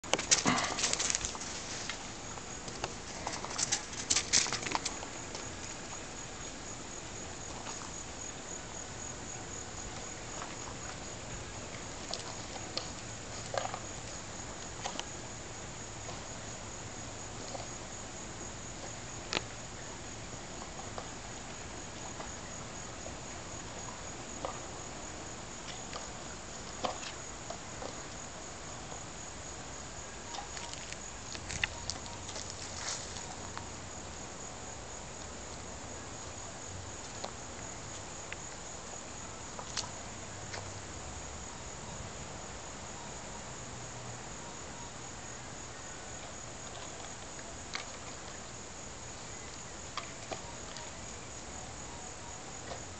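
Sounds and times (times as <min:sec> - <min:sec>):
insects trilling: 0:00.1 - 0:52.9.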